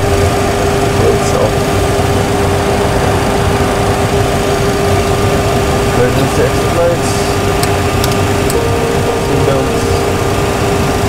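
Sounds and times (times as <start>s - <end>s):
constant mid-pitched tone: 0.0s - 11.0s
cooling fans and electrical hum: 0.0s - 11.0s
low drone: 0.0s - 11.0s.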